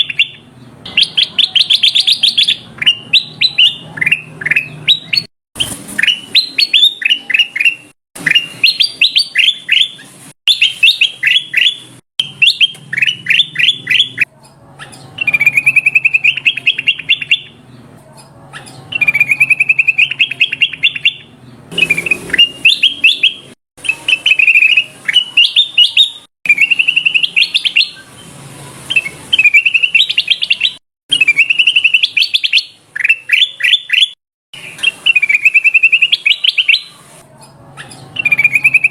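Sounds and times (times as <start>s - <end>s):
bulbul song with chirps and trills: 0.0s - 38.9s.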